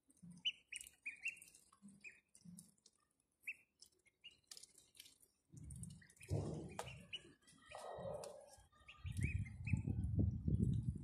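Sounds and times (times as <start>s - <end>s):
bills dabbling in water: 0.0s - 9.8s
ducklings peeping: 0.1s - 11.0s.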